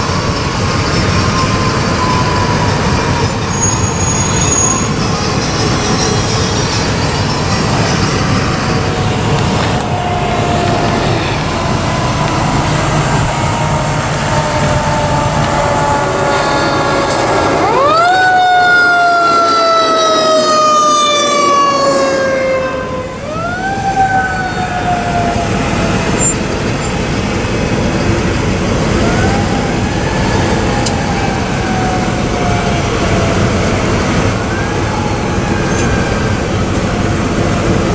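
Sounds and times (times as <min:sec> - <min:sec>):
truck engine and road noise: 0:00.0 - 0:37.9.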